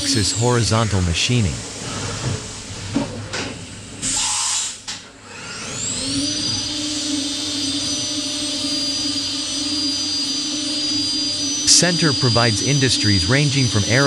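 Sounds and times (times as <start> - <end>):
milling machine cutting metal: 0.0 - 2.2, 4.0 - 14.0
spindle high whine: 0.0 - 14.0.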